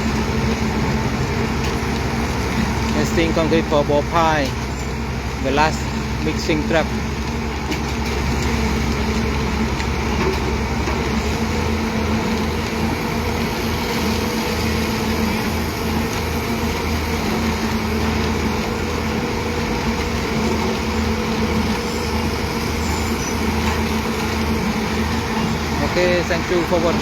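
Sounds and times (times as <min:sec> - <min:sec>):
heavy machinery engine humming: 0:00.0 - 0:27.0.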